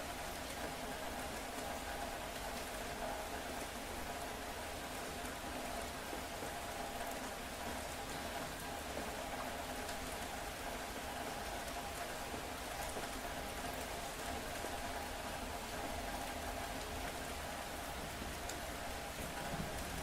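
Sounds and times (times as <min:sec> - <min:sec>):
rain falling: 0:00.1 - 0:20.0.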